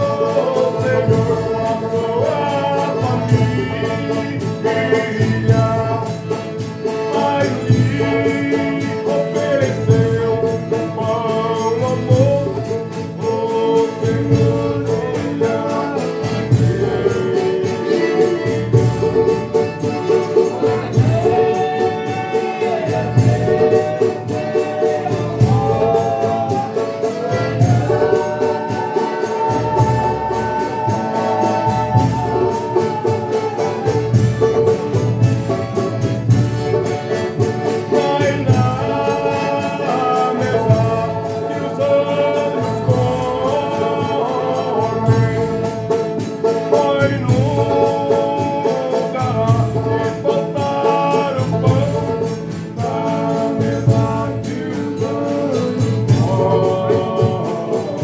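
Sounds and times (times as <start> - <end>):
steady drum beat: 0.0 - 58.0
tambourine jingles: 0.0 - 58.0
voices singing together: 0.0 - 58.0.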